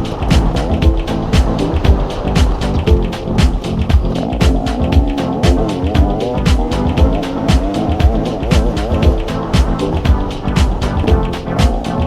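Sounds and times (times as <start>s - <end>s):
background music with steady beat: 0.0s - 12.0s
hi-hat ticks: 0.0s - 12.0s
kick drum: 0.0s - 12.0s
wavering melody line: 0.0s - 12.0s.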